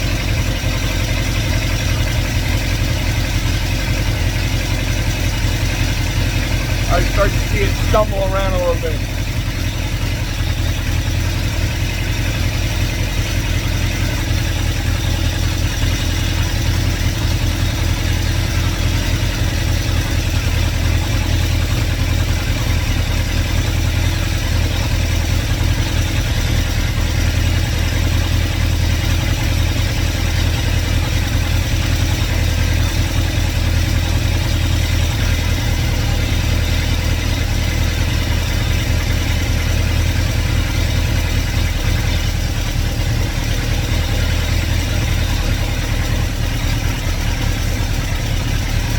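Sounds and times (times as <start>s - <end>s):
car engine idling and stumbling: 0.0s - 48.9s.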